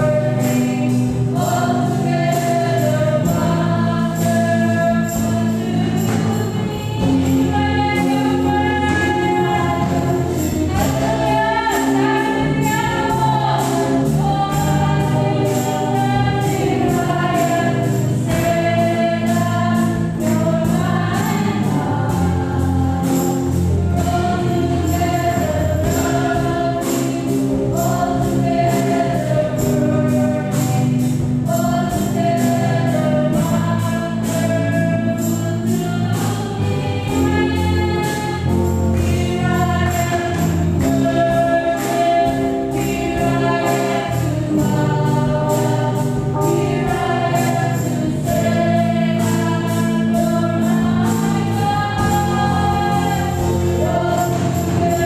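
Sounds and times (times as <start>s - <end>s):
drums on cymbals: 0.0s - 55.0s
woman singing: 0.0s - 55.0s.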